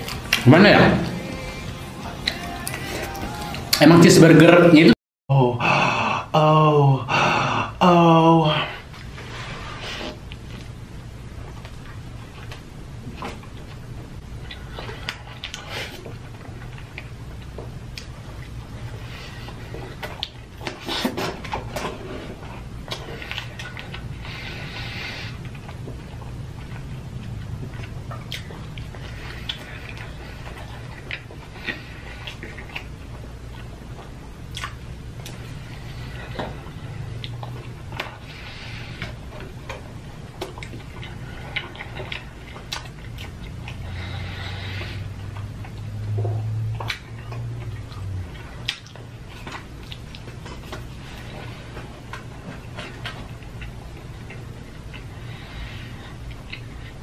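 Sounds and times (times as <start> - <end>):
wet chewing and mouth-smacking: 0.0 - 0.5, 10.1 - 57.0
steady low hum: 0.0 - 57.0.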